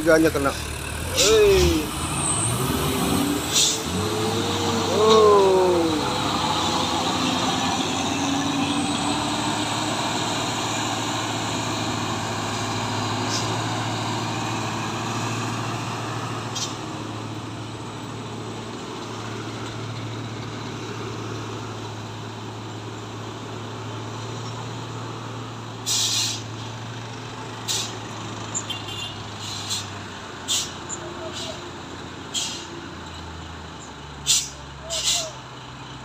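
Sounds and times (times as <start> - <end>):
diesel truck engine hum: 0.0 - 36.0
road and tyre roar: 0.0 - 36.0.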